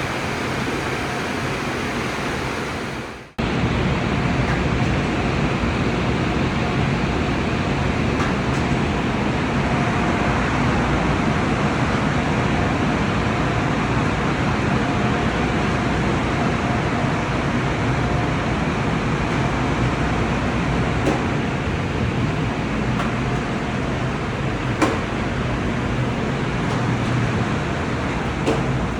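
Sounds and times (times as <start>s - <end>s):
car wash sprays and machinery: 0.0s - 28.9s.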